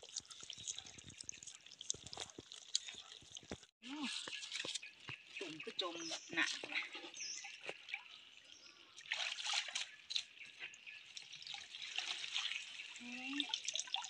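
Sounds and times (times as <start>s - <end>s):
water splashing: 0.0s - 14.0s
water trickling and dripping: 0.0s - 14.0s.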